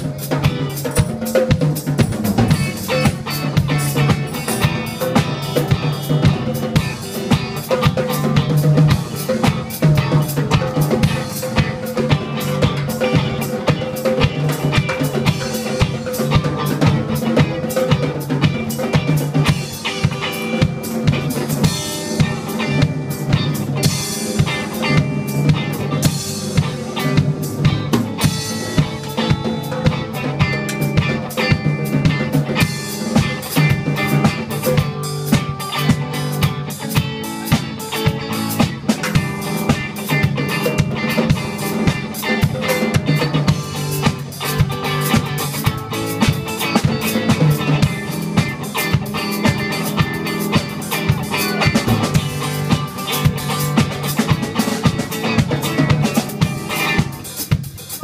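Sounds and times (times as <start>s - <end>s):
guitar playing: 0.0s - 57.7s
drum kit beat: 0.0s - 58.0s.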